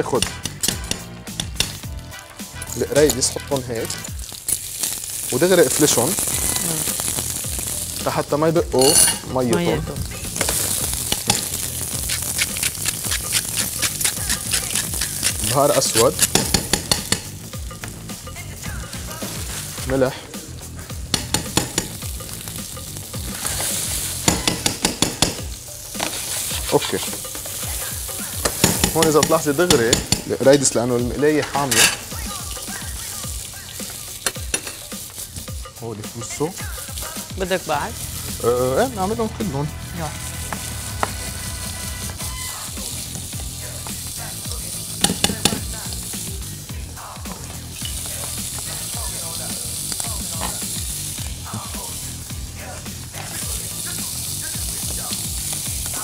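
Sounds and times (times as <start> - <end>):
shrimp sizzling in oil: 0.0 - 56.0.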